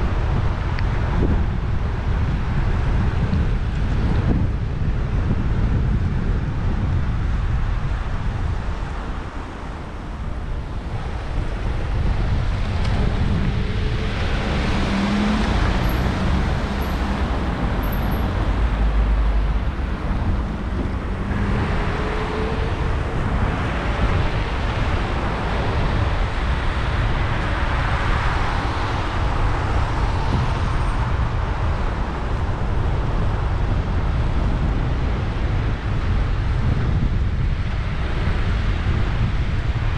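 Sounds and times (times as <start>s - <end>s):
cars passing on wet road: 0.0s - 39.9s
wind rumble on microphone: 0.0s - 39.9s.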